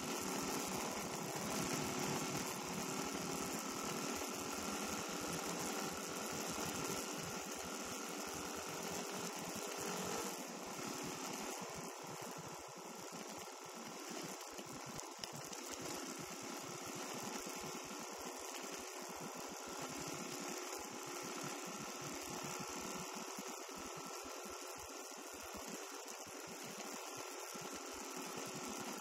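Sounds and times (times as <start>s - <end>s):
dirt bike engine buzzing: 0.0s - 29.0s.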